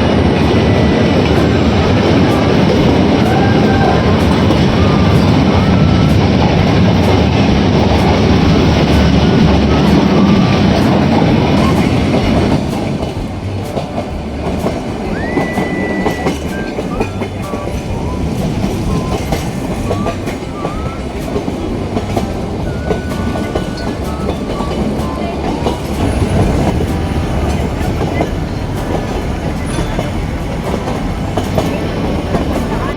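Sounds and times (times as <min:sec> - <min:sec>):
train rumbling on rails: 0:00.0 - 0:32.9
wheel squeals: 0:00.0 - 0:32.9.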